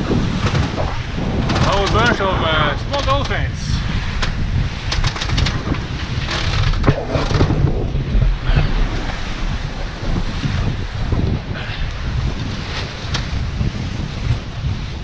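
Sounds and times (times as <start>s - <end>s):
sea water rushing past hulls: 0.0s - 15.0s
wind buffeting microphone: 0.0s - 15.0s.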